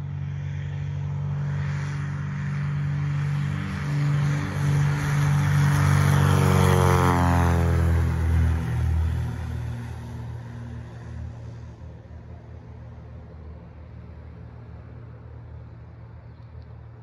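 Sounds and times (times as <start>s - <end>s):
plane engine and propeller: 0.0s - 17.0s.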